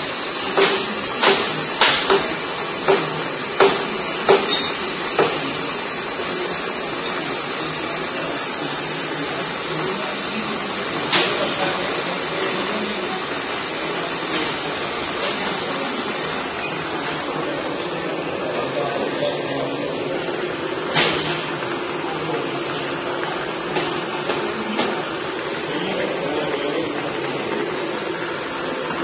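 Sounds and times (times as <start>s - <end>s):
drill press running: 0.0s - 29.0s.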